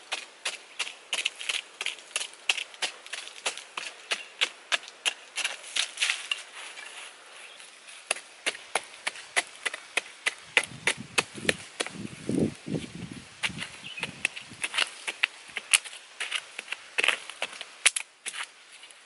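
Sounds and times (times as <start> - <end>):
stick jabbing into dry soil: 0.0 - 6.9, 8.0 - 18.6
dull soil-handling sounds: 0.0 - 19.0.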